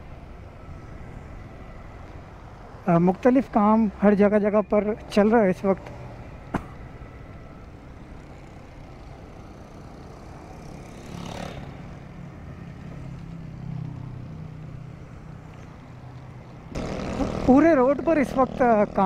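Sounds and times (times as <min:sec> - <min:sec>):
road and engine noise: 0:00.0 - 0:19.0.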